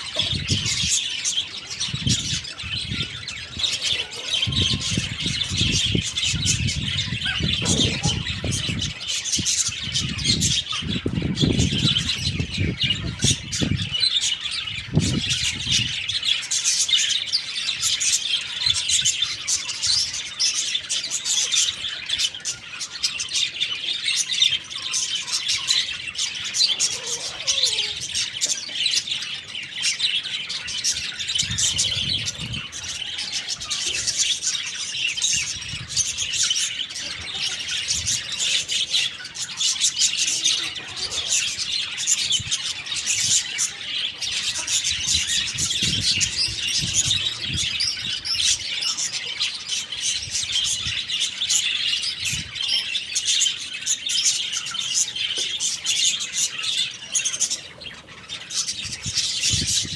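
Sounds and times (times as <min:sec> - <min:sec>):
chicks chirping and squawking: 0:00.0 - 0:59.9.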